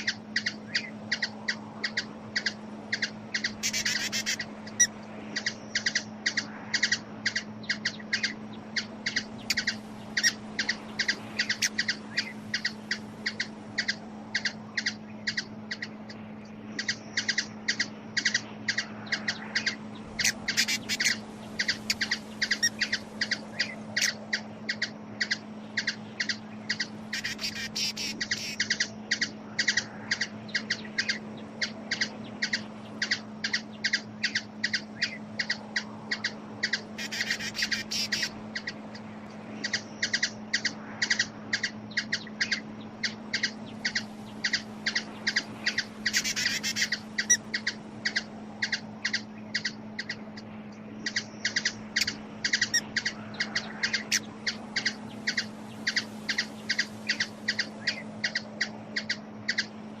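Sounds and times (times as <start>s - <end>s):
hummingbird chip notes: 0.0s - 60.0s
steady low hum: 0.0s - 60.0s.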